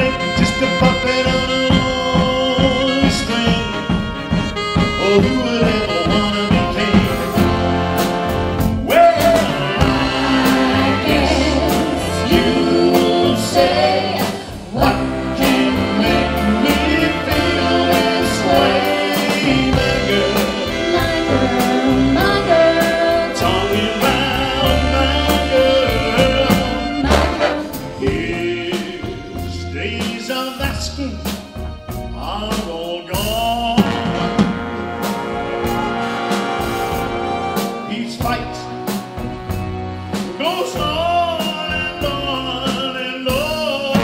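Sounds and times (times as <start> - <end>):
man singing: 0.0 - 7.9, 8.8 - 31.5, 32.2 - 34.6, 37.6 - 38.9, 40.2 - 44.0
big band playing: 0.0 - 44.0.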